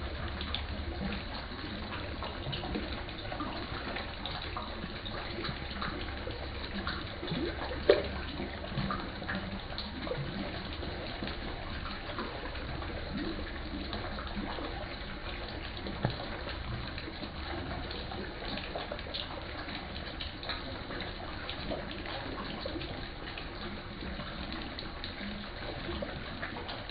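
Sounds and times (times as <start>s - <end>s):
moving water wash: 0.0s - 26.9s.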